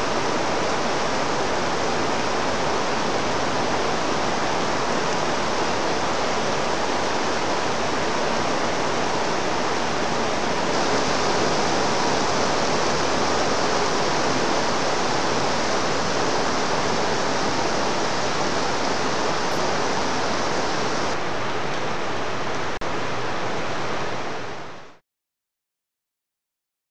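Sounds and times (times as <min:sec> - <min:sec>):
torrential rain pouring: 0:00.0 - 0:25.0.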